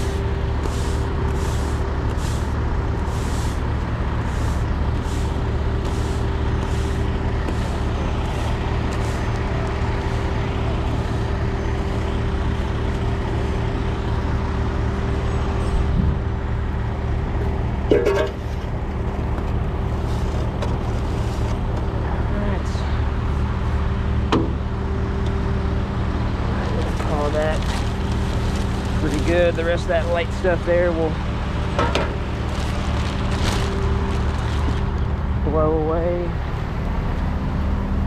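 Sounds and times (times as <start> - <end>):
diesel truck engine idling: 0.0 - 38.0.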